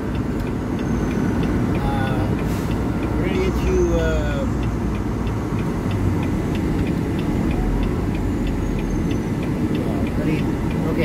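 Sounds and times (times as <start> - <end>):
diesel engine rumble: 0.0 - 11.0
light ticking: 0.0 - 11.0.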